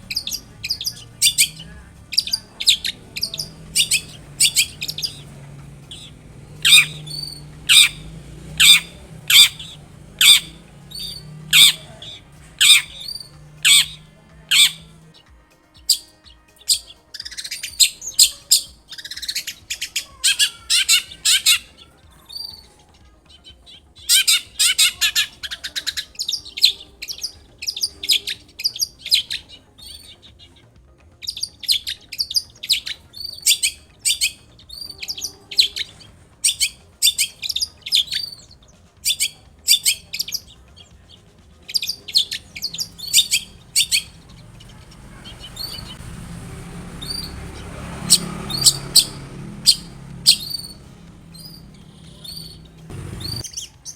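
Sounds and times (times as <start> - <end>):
bird scratchy chattering: 0.0 - 15.1, 15.9 - 22.7, 23.5 - 30.6, 31.2 - 53.9
bird singing sharp high notes: 0.0 - 15.2, 15.8 - 22.7, 23.5 - 30.6, 31.2 - 53.9.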